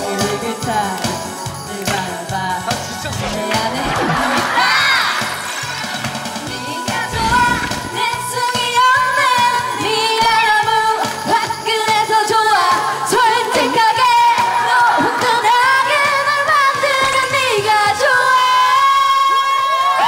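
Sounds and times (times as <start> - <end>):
karaoke backing track: 0.0 - 20.0
women singing karaoke: 0.0 - 20.0.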